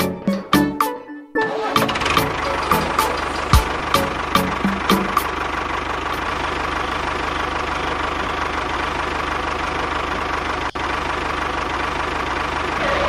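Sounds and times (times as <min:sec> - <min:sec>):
tractor engine idling: 0:01.4 - 0:13.0.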